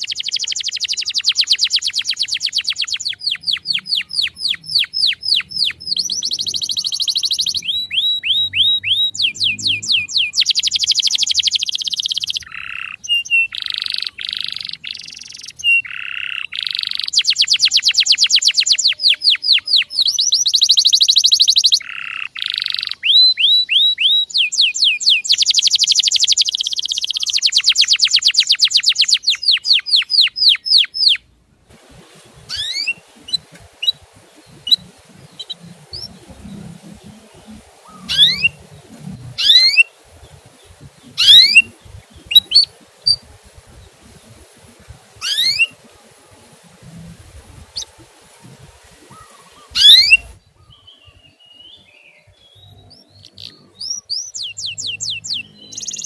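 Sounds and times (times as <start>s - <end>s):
canary singing trills: 0.0s - 31.3s, 32.2s - 56.0s
rising bird chirps: 0.0s - 31.3s, 31.9s - 56.0s
background noise: 0.0s - 56.0s.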